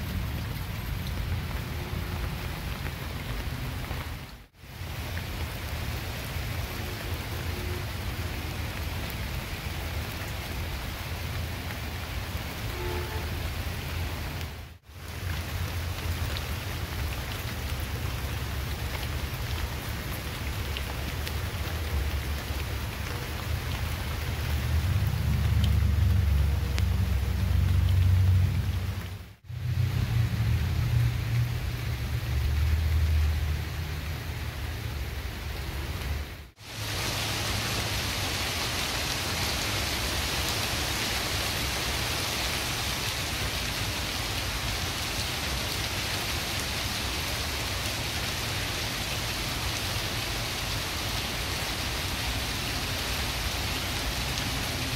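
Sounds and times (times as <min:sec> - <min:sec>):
rain falling on leaves: 0:00.0 - 0:54.9.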